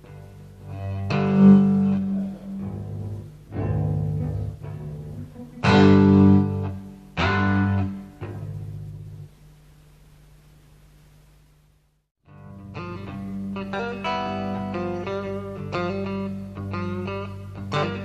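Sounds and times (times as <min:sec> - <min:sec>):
guitar and bass chords: 0:00.0 - 0:09.3, 0:12.2 - 0:18.0.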